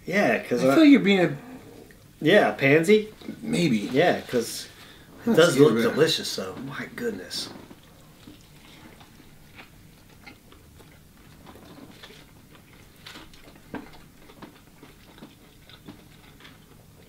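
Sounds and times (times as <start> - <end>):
people chewing crunchy food: 2.9 - 17.0.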